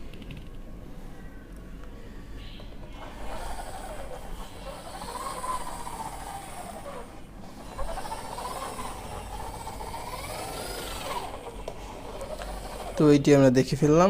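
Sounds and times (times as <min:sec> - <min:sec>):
toy bus gearing whirring: 0:02.2 - 0:14.0.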